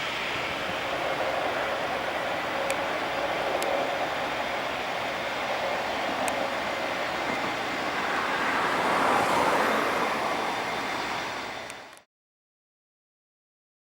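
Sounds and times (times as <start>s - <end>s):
jet engine roar: 0.0s - 12.1s.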